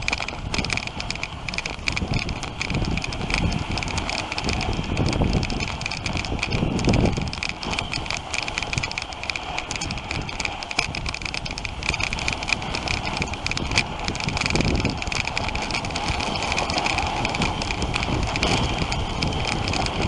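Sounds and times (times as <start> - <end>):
sled frame rattling clicks: 0.0 - 20.0
sled runners hissing on snow: 0.0 - 20.0
wind gusts on microphone: 0.0 - 20.0.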